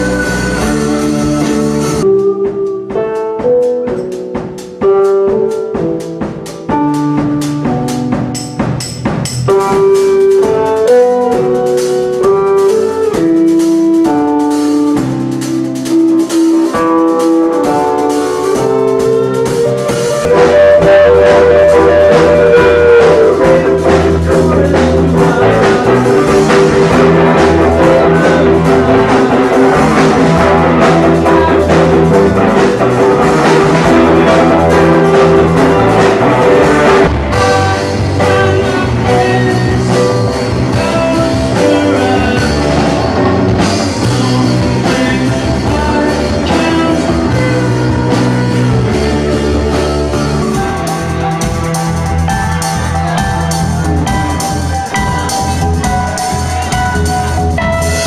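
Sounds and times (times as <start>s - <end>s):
indie rock band playing: 0.0s - 58.0s.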